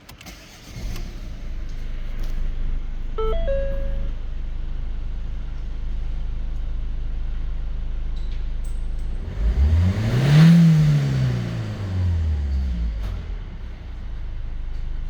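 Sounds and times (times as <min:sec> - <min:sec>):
diesel engine idling and revving: 0:00.0 - 0:15.0.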